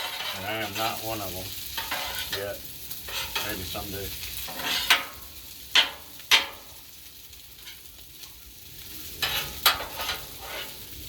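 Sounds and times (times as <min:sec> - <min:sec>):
metal spatula scraping griddle: 0:00.0 - 0:06.8, 0:07.5 - 0:07.9, 0:09.1 - 0:11.0
food sizzling: 0:00.0 - 0:11.0.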